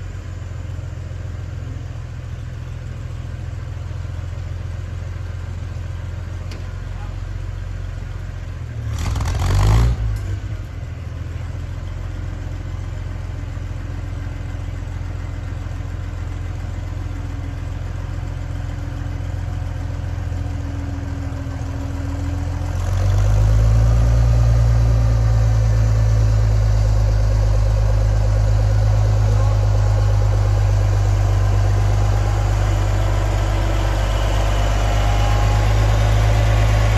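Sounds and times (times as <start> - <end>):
engine idling: 0.0 - 9.4, 10.1 - 36.9.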